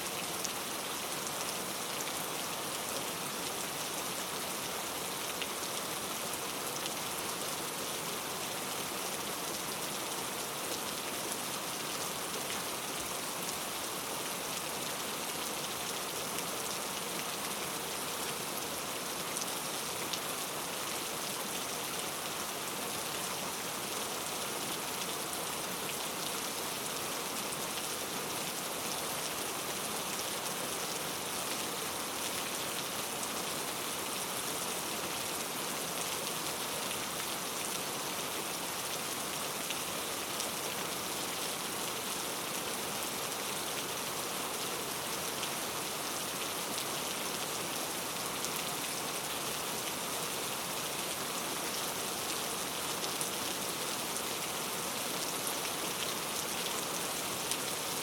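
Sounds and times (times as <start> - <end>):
rain falling on foliage: 0.0 - 58.0.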